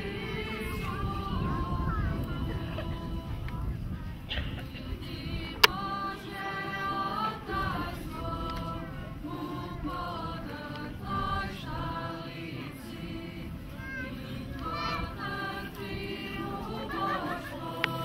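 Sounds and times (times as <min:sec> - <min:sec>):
choir singing slowly: 0:00.0 - 0:18.0
steady low rumble: 0:00.0 - 0:18.0.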